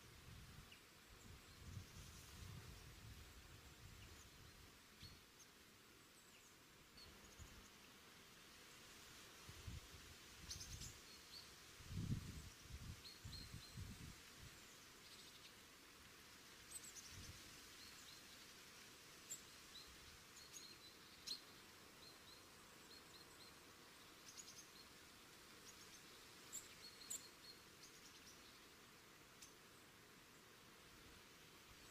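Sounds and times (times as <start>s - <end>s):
small birds chirping: 0.6s - 8.1s, 10.4s - 15.7s, 16.5s - 31.9s.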